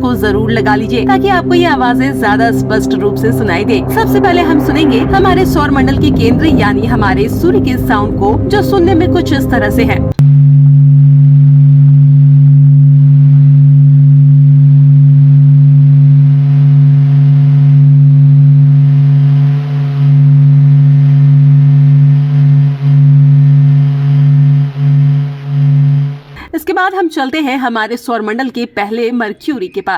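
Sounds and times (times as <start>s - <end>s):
deep hum: 0.0s - 26.4s.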